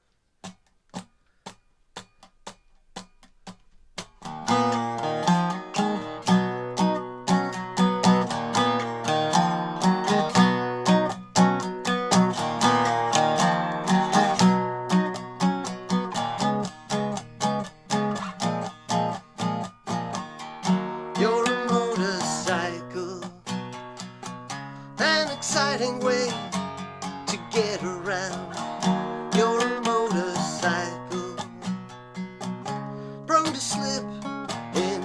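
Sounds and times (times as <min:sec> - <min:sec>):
strummed guitar chords: 0:02.0 - 0:35.0.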